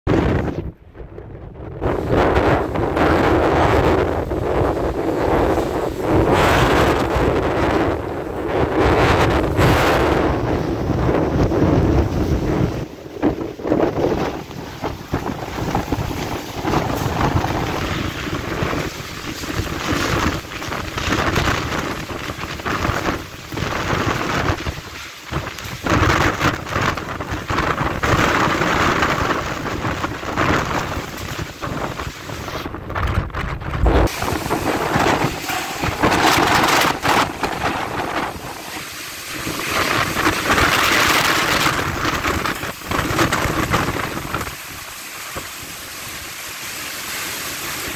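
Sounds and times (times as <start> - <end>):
wind buffeting microphone: 0.0 - 47.9
wind gusts: 0.0 - 47.9
rain hiss: 1.8 - 32.8, 34.0 - 47.9.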